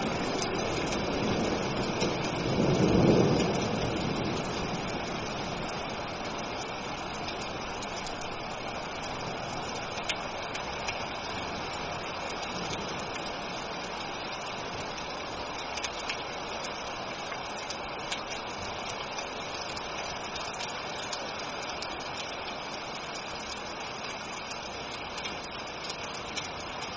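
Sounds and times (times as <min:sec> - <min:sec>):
heavy rain hiss: 0:00.0 - 0:26.9.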